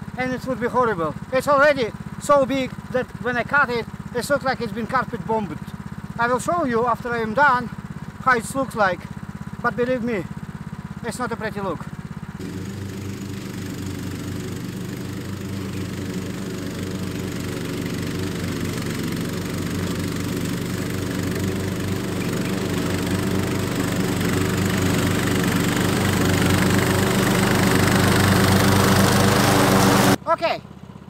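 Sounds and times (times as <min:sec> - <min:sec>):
riding lawn tractor mowing: 0:00.0 - 0:31.0.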